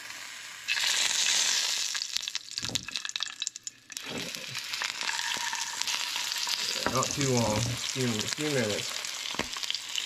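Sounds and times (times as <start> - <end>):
meat sizzling in frying pan: 0.0 - 10.0.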